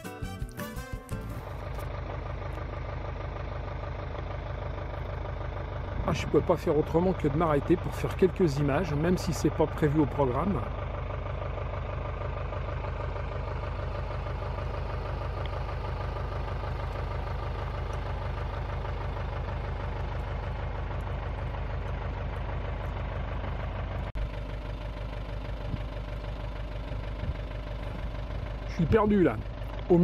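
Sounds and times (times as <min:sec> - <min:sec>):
motorhome engine idling: 0:00.0 - 0:30.0.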